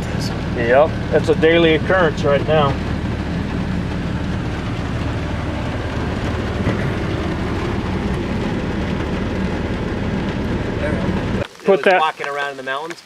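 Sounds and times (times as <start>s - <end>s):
hail and rain on roof: 0.0s - 13.0s
road and engine noise: 0.0s - 13.0s.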